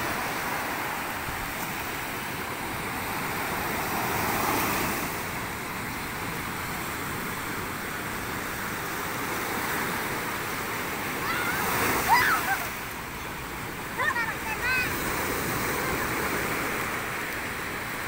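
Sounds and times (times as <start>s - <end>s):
surf breaking on beach: 0.0s - 18.0s.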